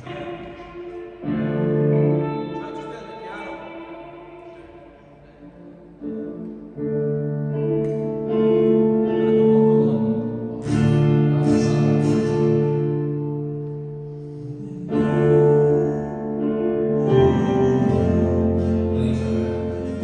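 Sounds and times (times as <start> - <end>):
guitar chords strummed and ringing: 0.0 - 5.4, 6.1 - 20.0.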